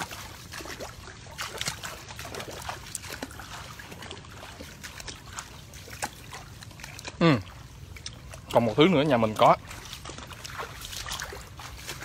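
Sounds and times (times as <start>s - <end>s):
water trickling and sloshing: 0.0s - 12.0s.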